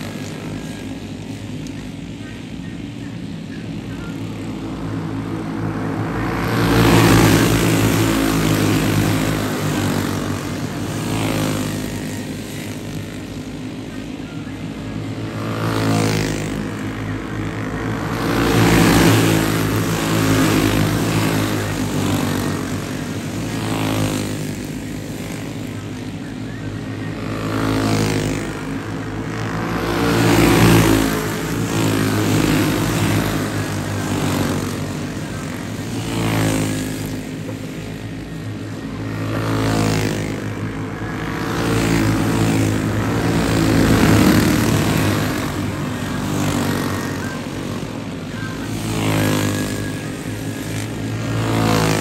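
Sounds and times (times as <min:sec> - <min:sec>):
racing kart engines buzzing: 0:00.0 - 0:52.0.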